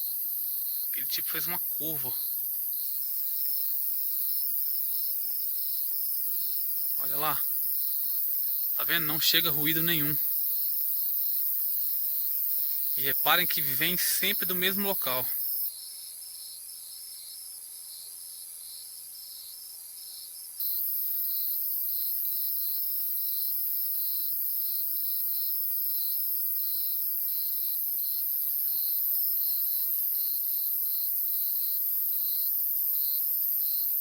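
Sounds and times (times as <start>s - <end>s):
crickets chirping: 0.0s - 34.0s
high insect hiss: 0.0s - 34.0s.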